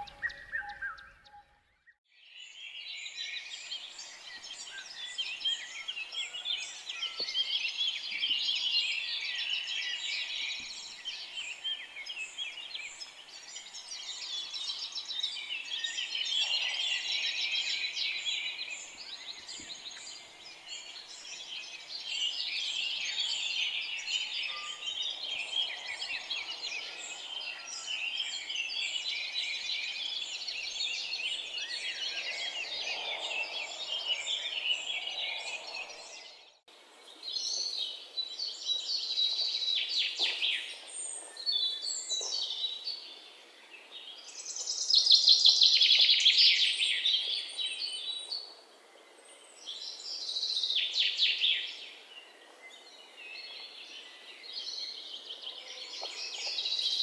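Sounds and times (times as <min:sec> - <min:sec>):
many small birds chirping: 0:02.2 - 0:57.0.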